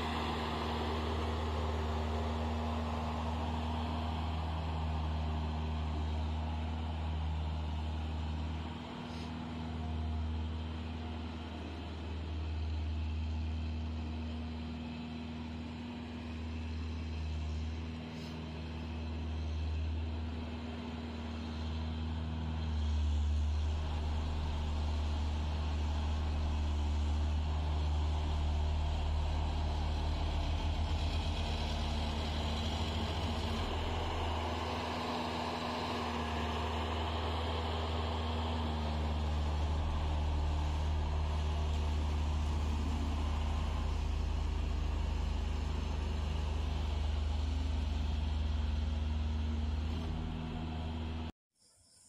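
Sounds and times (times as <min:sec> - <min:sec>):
road roller diesel engine running: 0:00.0 - 0:51.3.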